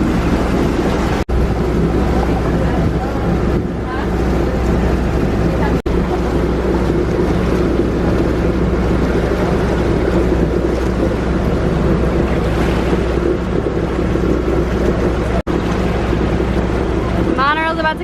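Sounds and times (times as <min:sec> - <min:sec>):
boat engine running: 0:00.0 - 0:18.0
water rushing: 0:00.0 - 0:18.0
wind buffeting microphone: 0:00.0 - 0:18.0.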